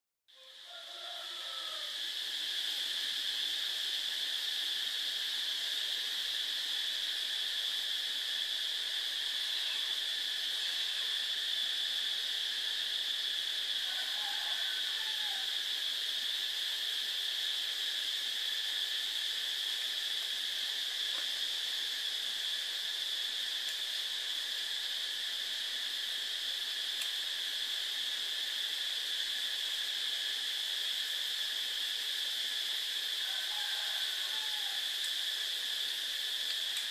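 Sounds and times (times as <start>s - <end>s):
high-pitched insect chorus: 0.3s - 36.9s.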